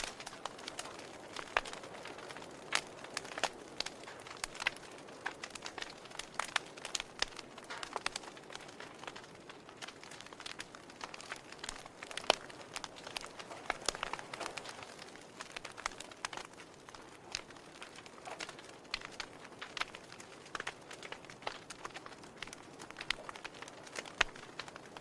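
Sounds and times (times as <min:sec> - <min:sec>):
fire popping and snapping: 0:00.0 - 0:25.0
soft hiss of burning: 0:00.0 - 0:25.0
wood fire crackling: 0:00.0 - 0:25.0.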